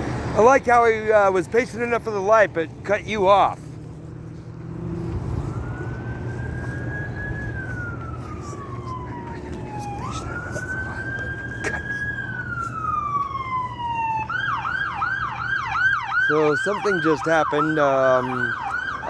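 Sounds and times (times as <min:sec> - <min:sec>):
emergency vehicle siren wailing: 0:00.0 - 0:19.0.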